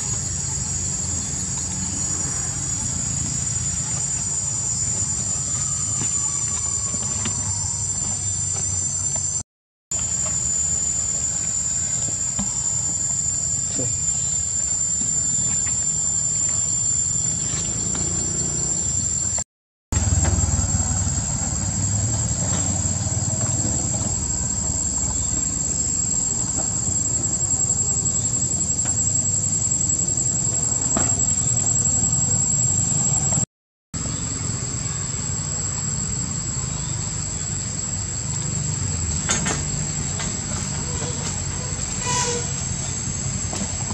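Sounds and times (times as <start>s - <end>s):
insects buzzing: 0.0s - 19.4s, 20.0s - 33.4s, 34.0s - 43.9s.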